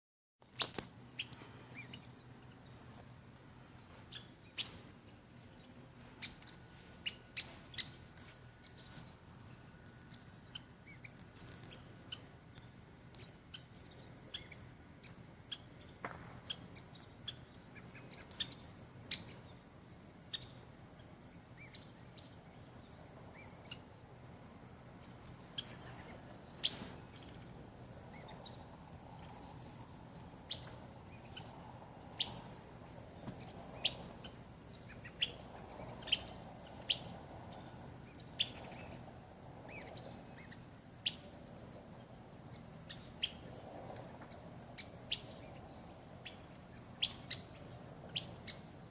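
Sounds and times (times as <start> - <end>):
faint outdoor background: 0.4 - 48.9
birds chirping: 3.6 - 19.6, 25.0 - 48.8.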